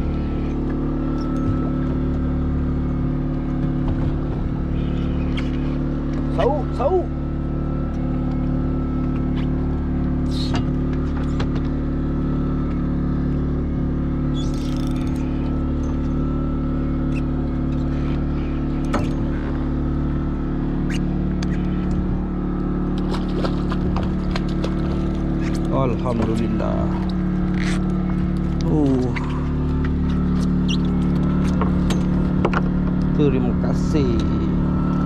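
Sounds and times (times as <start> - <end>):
boat engine humming: 0.0 - 35.0.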